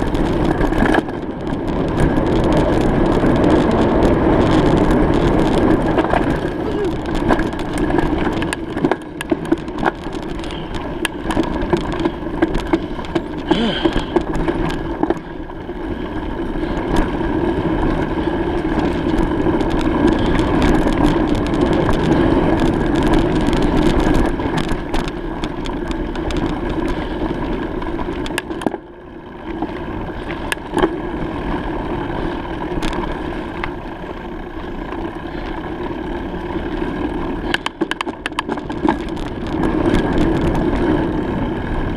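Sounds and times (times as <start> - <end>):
small rattling clicks: 0.0 - 28.8, 36.6 - 41.9
bicycle tyres rumbling: 0.0 - 41.9.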